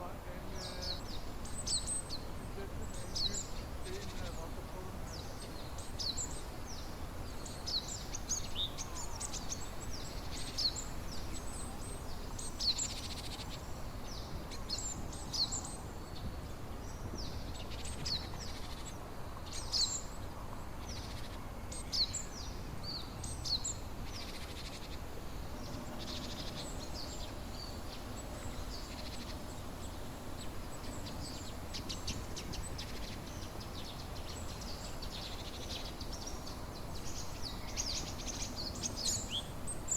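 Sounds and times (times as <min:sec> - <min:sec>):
low background rush: 0:00.0 - 0:39.9
small birds chirping: 0:00.0 - 0:39.9.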